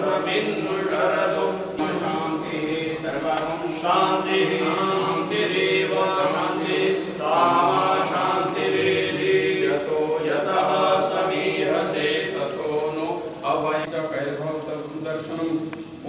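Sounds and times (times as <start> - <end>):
group chanting mantras: 0.0 - 16.0.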